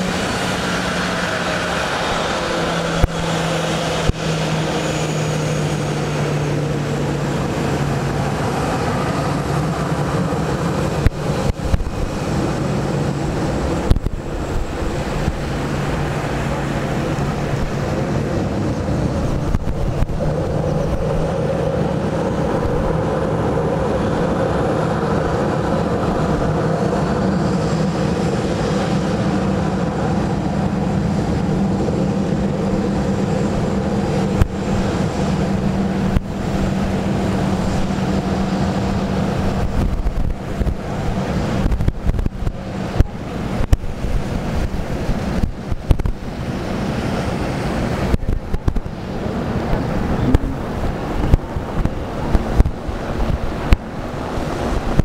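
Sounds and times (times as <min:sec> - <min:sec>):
jet engines humming and whining: 0:00.0 - 0:55.0
wind buffeting microphone: 0:00.0 - 0:55.0.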